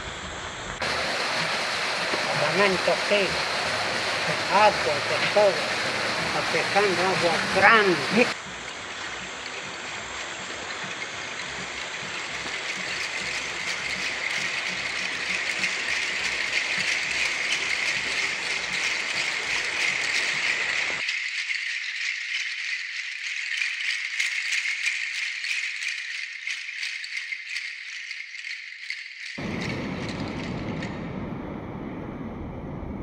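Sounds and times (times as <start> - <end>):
dense rattling: 0.8 - 31.0.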